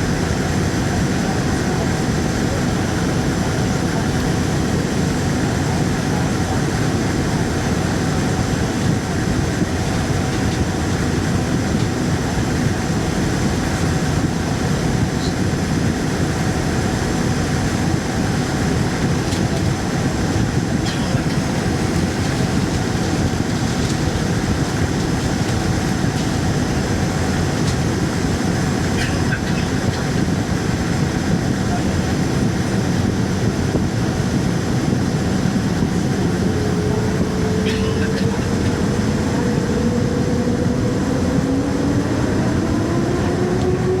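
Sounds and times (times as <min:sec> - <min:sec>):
aircraft cabin rumble: 0:00.0 - 0:44.0.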